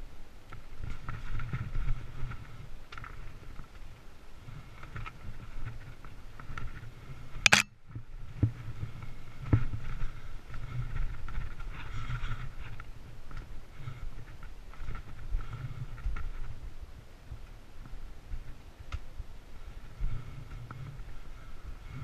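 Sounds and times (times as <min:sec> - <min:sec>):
bike tyres rumbling on trail: 0:00.0 - 0:22.0.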